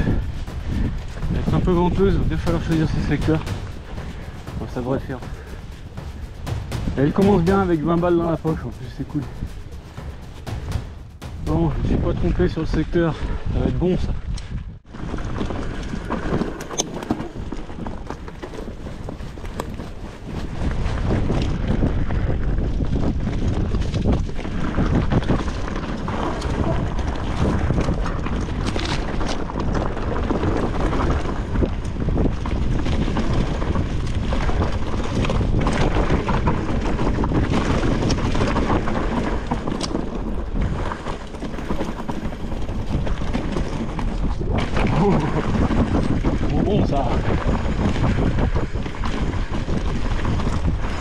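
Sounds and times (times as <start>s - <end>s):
tyres rolling on dirt: 0.0s - 13.2s, 14.9s - 51.0s
bike rattling over bumps: 0.0s - 51.0s
wind rushing over microphone: 0.0s - 51.0s.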